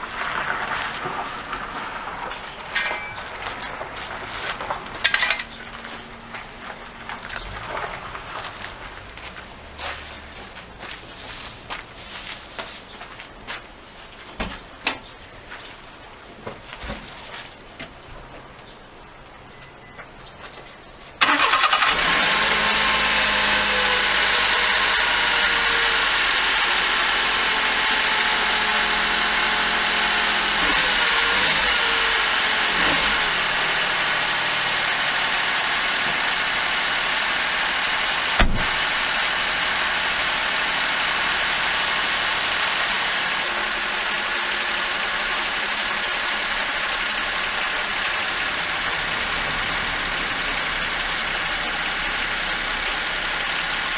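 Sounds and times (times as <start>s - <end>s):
car engine starting and idling: 0.0s - 13.6s, 17.9s - 53.9s.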